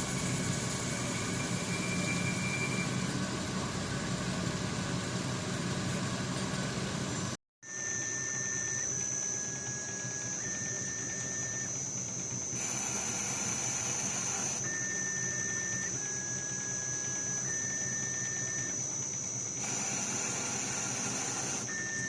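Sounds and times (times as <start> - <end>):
stepper motors whining: 0.0 - 3.5, 7.6 - 22.0
machine humming: 0.0 - 22.0.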